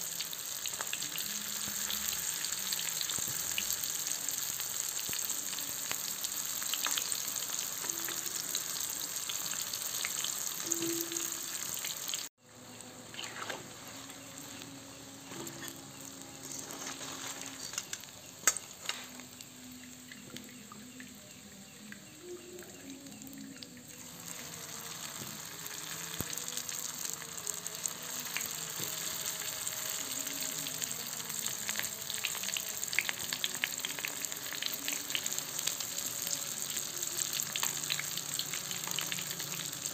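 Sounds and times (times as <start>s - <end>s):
hot oil sizzling: 0.0s - 21.4s, 23.8s - 39.9s.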